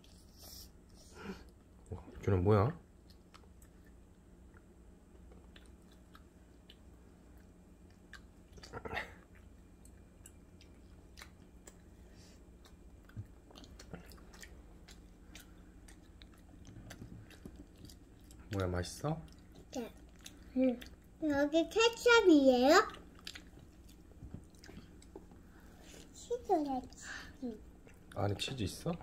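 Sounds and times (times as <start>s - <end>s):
children chewing and crunching: 3.0s - 29.0s.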